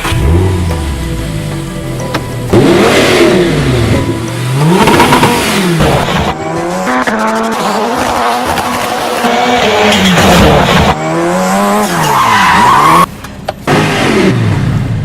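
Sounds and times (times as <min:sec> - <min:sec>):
sports car engine revving: 0:00.0 - 0:11.8, 0:13.6 - 0:15.0.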